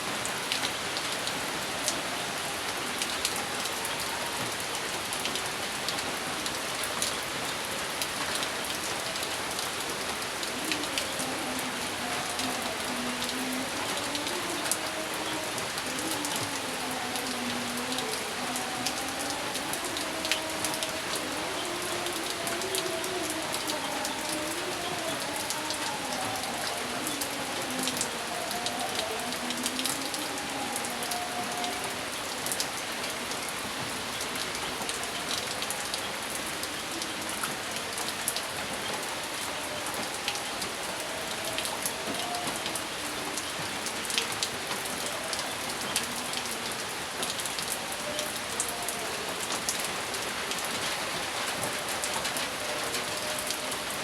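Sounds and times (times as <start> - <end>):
steady rain with dripping drops: 0.0 - 54.0.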